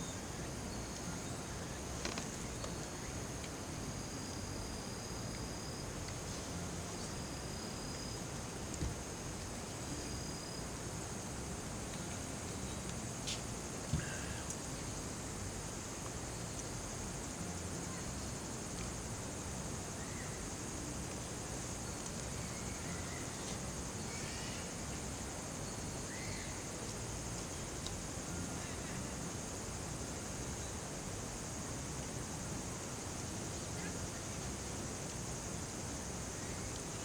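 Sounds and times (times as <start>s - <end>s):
low background hiss: 0.0s - 37.0s.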